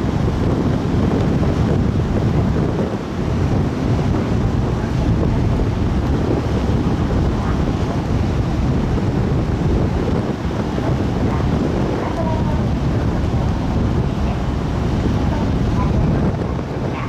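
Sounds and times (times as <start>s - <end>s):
sea wash: 0.0s - 17.0s
wind buffeting microphone: 0.0s - 17.0s.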